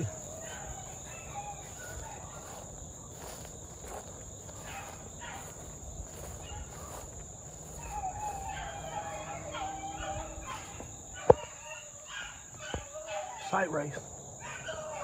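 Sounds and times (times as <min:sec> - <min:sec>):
hounds baying: 0:00.0 - 0:13.8, 0:14.4 - 0:15.0
insects droning: 0:00.0 - 0:15.0.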